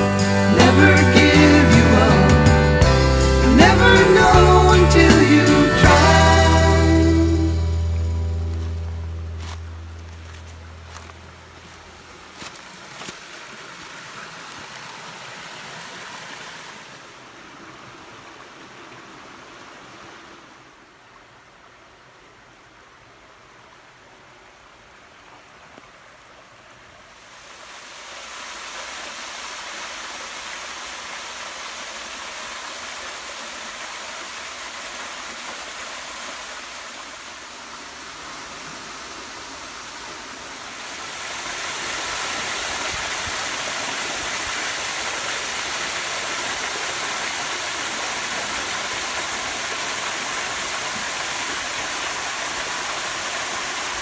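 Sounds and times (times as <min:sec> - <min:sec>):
stream rushing over rocks: 0:03.4 - 0:54.0.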